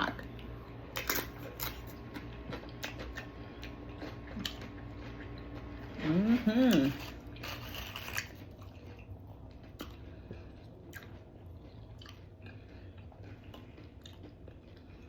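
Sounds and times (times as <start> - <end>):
chewing and biting mouth sounds: 0.3 - 15.0.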